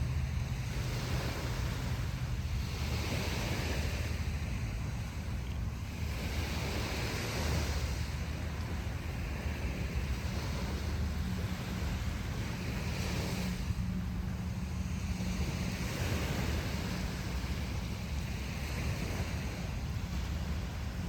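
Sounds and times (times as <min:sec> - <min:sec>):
ocean surf on beach: 0:00.0 - 0:21.0
wind rumble on microphone: 0:00.0 - 0:21.0.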